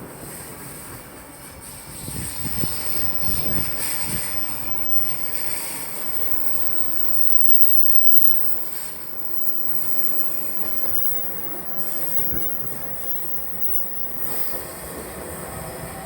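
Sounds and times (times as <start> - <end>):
train wheels rumbling on rail: 0.0 - 16.0
high-pitched squeal: 2.0 - 15.2.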